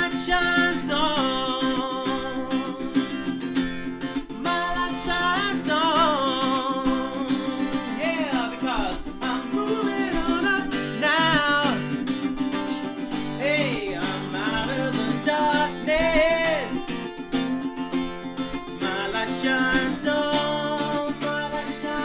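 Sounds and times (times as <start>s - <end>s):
man singing pop-rock song: 0.0s - 3.1s, 4.4s - 12.4s, 13.1s - 17.0s, 18.7s - 22.0s
acoustic guitar strumming: 0.0s - 22.0s.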